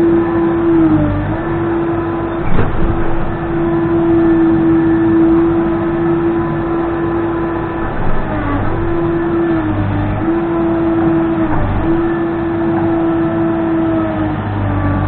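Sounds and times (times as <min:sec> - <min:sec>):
diesel engine at high revs: 0:00.0 - 0:15.0.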